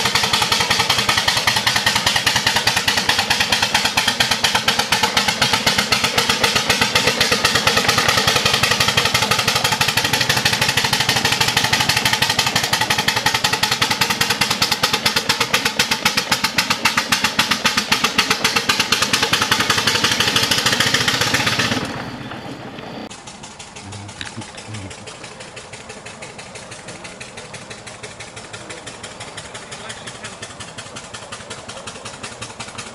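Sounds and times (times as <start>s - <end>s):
steam engine exhaust chuffing: 0.0s - 32.9s.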